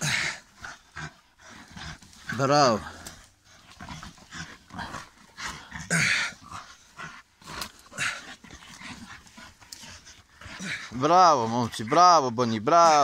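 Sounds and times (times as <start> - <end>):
dogs growling: 0.0 - 13.0.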